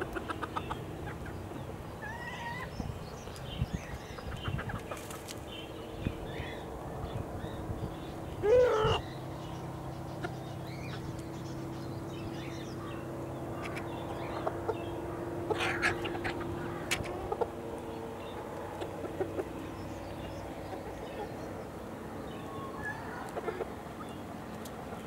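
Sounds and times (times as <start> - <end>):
chickens clucking: 0.0 - 2.9, 3.8 - 5.5, 8.1 - 25.0.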